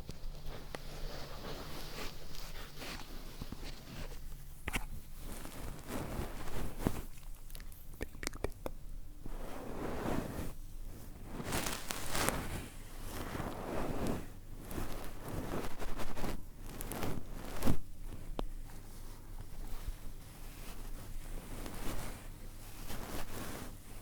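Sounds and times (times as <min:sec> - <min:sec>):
crunchy rustling at microphone: 0:00.0 - 0:24.0.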